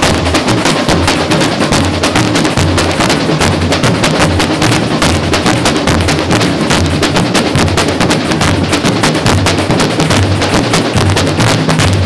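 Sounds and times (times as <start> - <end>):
snare drums rattling: 0.0 - 12.0.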